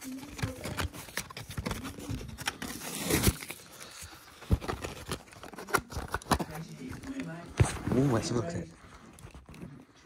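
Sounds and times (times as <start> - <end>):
plastic blister pack crinkling: 0.0 - 8.2
card backing tearing: 0.0 - 8.3.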